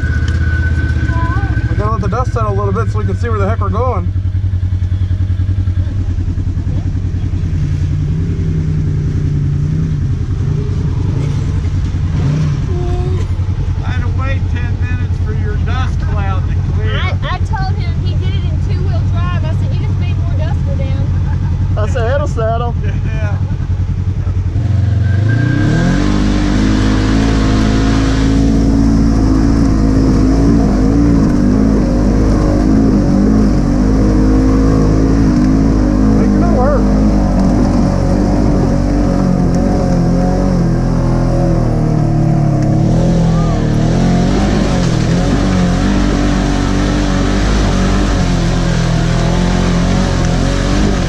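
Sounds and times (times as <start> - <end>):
engine exhaust pulsing: 0.0 - 51.0.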